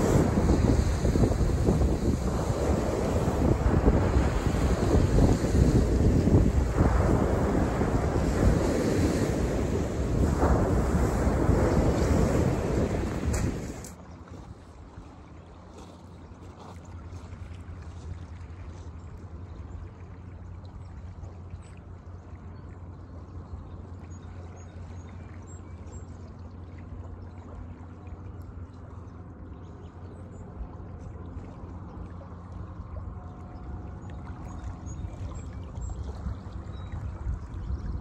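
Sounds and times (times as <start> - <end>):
seawater lapping over rocks: 0.0 - 38.0.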